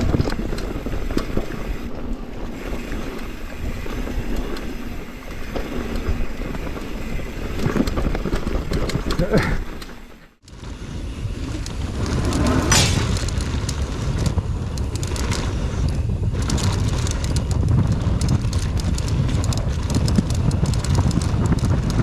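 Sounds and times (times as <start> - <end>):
wind buffeting microphone: 0.0 - 9.5, 10.5 - 22.0
bike clicks and rattles: 0.0 - 22.0
bike tyres on dirt: 0.0 - 22.0.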